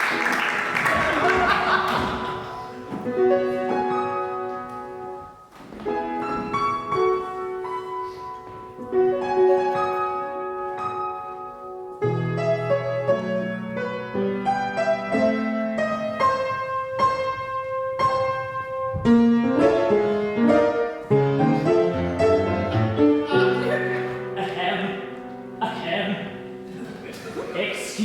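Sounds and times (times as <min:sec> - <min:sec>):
piano playing chords and melody: 0:00.0 - 0:28.0.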